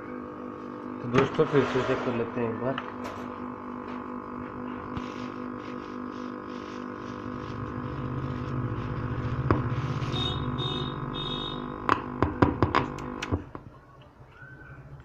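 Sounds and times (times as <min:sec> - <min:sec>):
droning hum of held tones: 0:00.0 - 0:15.0.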